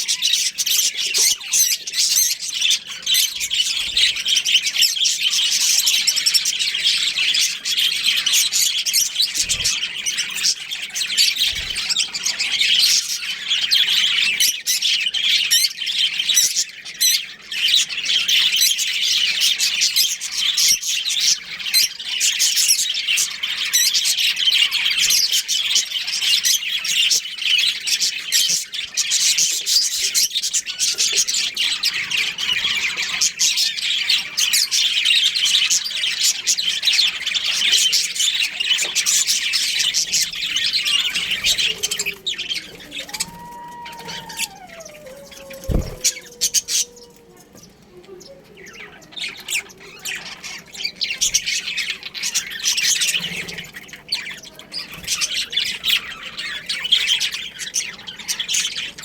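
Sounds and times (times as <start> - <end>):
budgerigars chirping and squawking: 0.0 - 59.0.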